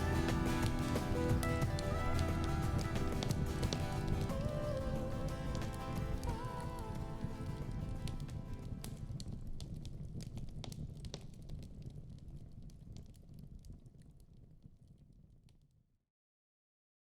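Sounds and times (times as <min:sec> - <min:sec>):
wood fire crackling and popping: 0:00.0 - 0:15.6
low rumble of fire: 0:00.0 - 0:15.8.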